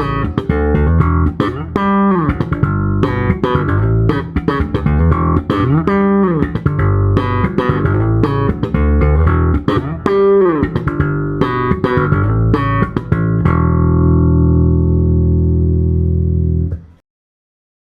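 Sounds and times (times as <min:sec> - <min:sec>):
electric guitar solo: 0:00.0 - 0:16.9.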